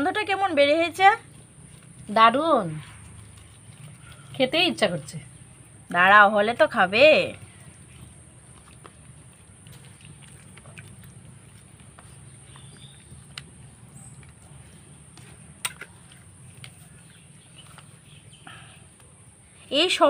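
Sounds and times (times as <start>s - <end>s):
wet squelching of hand mixing: 0.0s - 18.2s.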